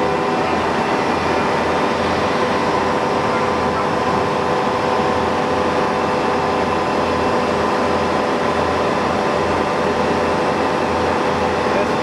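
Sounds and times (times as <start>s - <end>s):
boring mill machine hum: 0.0s - 12.0s.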